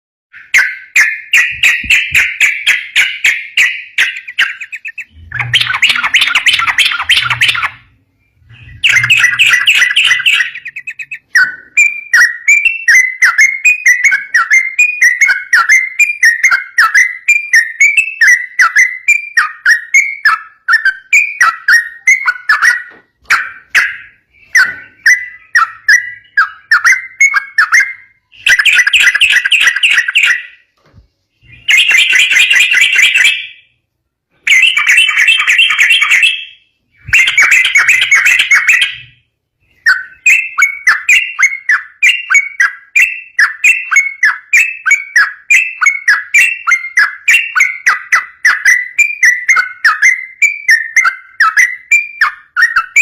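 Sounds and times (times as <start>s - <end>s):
bird singing: 0.3s - 53.0s.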